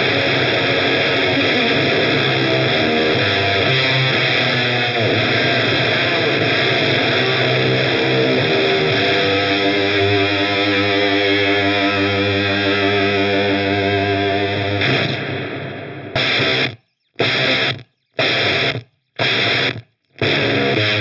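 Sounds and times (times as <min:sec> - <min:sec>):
fuzz electric guitar chords: 0:00.0 - 0:21.0.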